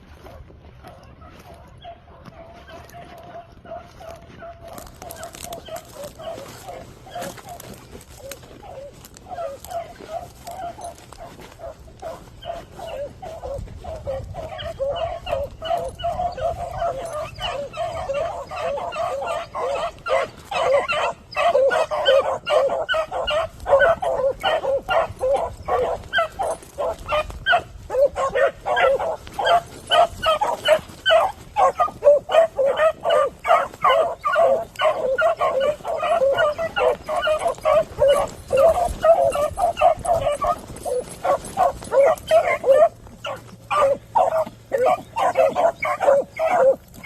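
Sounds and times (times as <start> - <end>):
pack of dogs baying: 0.0 - 47.0.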